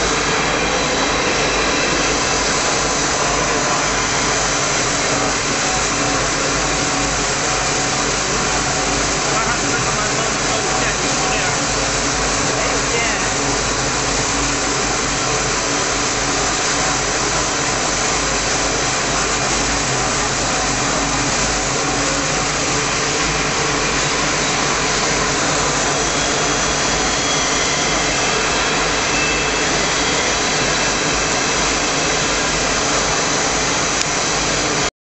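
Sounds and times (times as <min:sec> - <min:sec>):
mixing tank motor whirring: 0:00.0 - 0:34.9.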